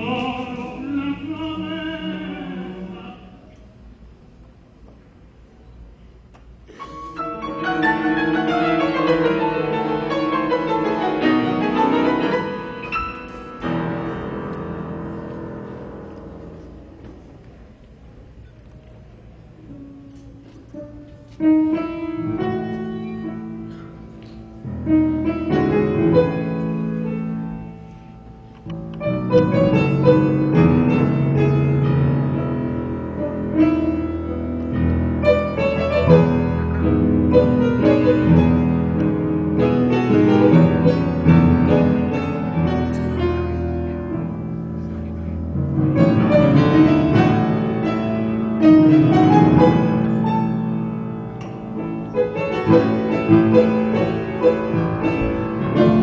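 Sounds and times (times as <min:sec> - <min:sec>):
piano music: 0:00.0 - 0:03.4, 0:06.9 - 0:17.7, 0:19.6 - 0:56.0.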